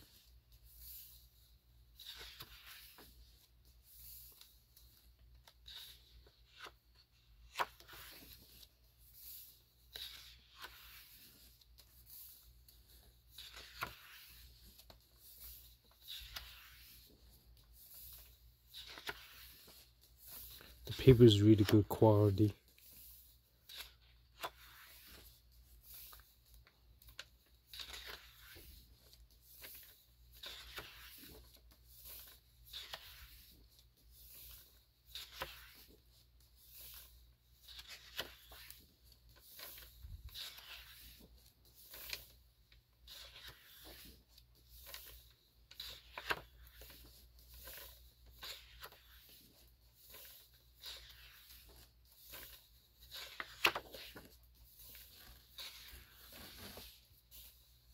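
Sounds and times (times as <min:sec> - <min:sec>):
book pages turning: 0:00.0 - 0:57.9.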